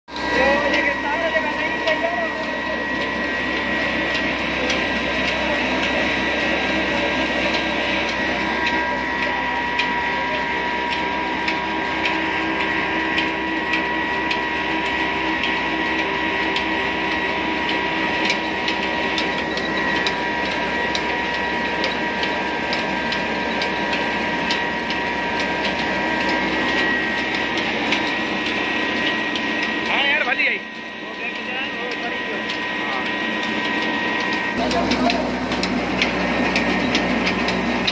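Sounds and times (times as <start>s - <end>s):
flour mill mechanical din: 0.1s - 37.9s
high mechanical whine: 0.1s - 37.9s
belts and pulleys clicking: 0.2s - 37.9s.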